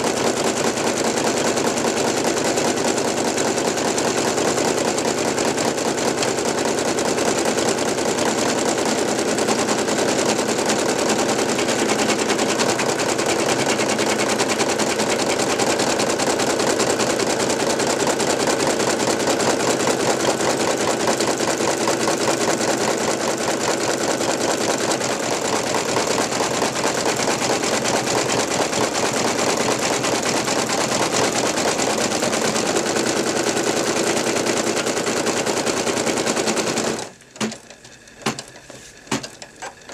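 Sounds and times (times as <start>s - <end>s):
embroidery machine needle clatter: 0.0s - 39.9s.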